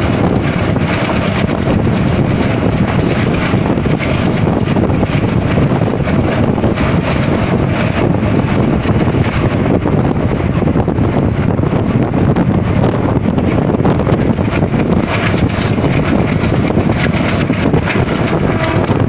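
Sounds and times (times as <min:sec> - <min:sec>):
train wheels rumbling on track: 0:00.0 - 0:19.0
wind buffeting microphone: 0:00.0 - 0:19.0.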